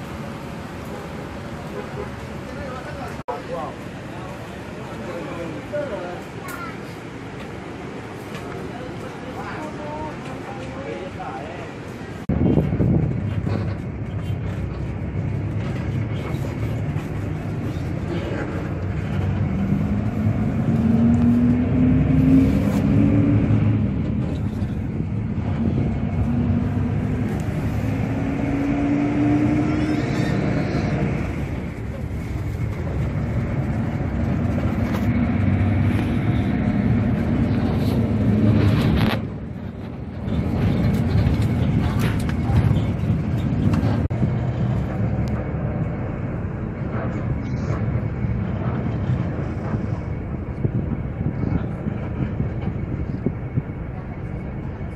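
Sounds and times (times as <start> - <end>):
bus engine: 0.0 - 54.9
road noise: 0.0 - 54.9.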